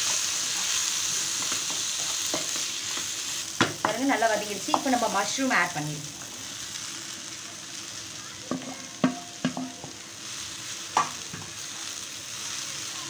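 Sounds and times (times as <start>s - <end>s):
masala sizzling in a frying pan: 0.0s - 13.0s.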